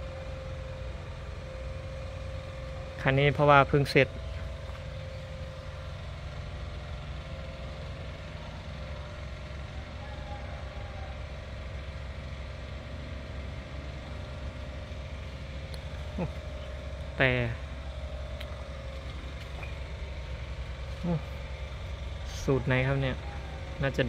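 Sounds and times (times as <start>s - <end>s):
harvester engine idling: 0.0s - 24.0s.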